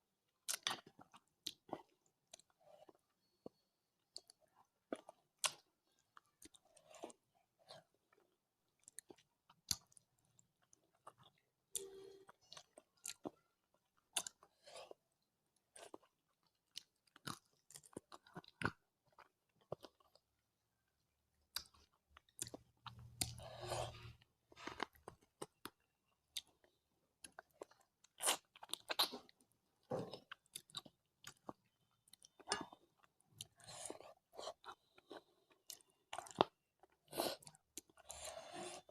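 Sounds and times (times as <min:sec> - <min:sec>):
person chewing food: 0:00.4 - 0:38.9.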